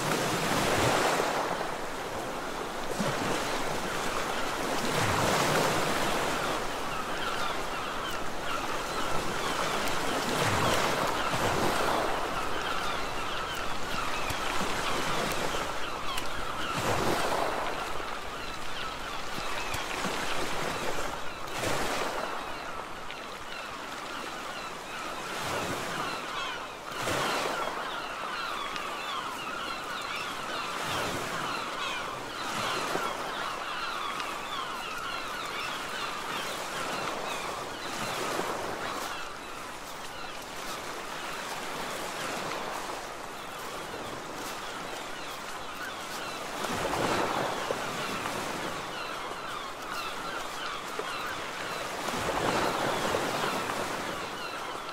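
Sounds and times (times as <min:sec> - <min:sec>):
sea surf washing on shore: 0:00.0 - 0:54.9
wind: 0:00.0 - 0:54.9.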